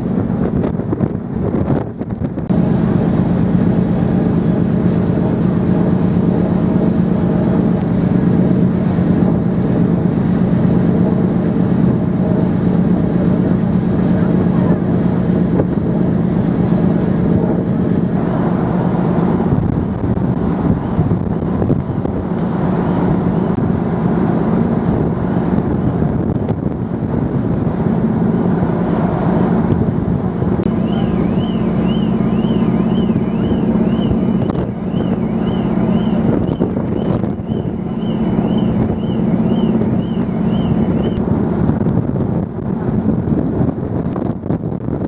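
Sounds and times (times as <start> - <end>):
ship engines humming: 0.0 - 44.6
sea rushing: 0.0 - 45.0
wind buffeting microphone: 0.0 - 45.0.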